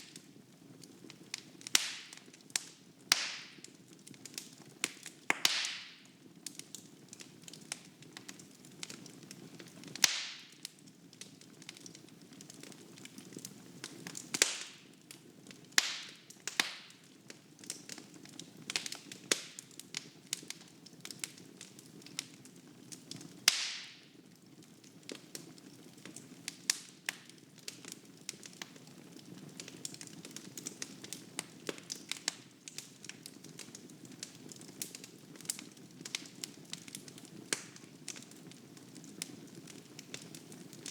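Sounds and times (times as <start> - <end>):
wood fire crackling: 0.0 - 40.9
fire pops: 1.1 - 22.3, 23.0 - 24.0, 26.0 - 40.9.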